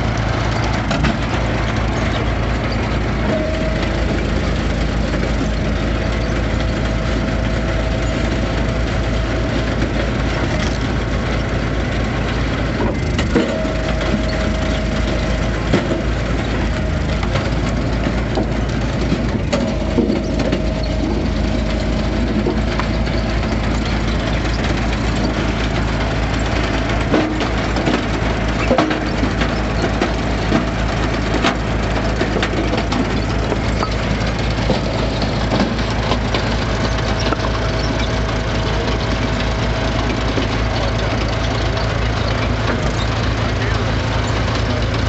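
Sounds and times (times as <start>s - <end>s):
log splitter engine running: 0.0s - 45.0s.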